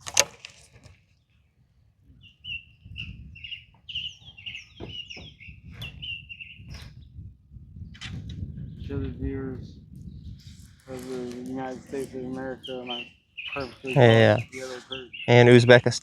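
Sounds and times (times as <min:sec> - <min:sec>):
songbird chirping: 0:00.4 - 0:16.0.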